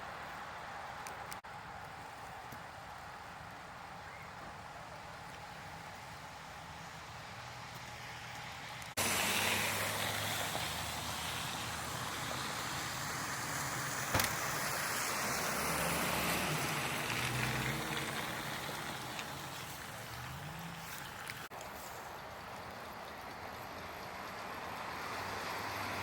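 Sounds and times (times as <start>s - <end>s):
road tyre noise hiss: 0.0s - 26.0s.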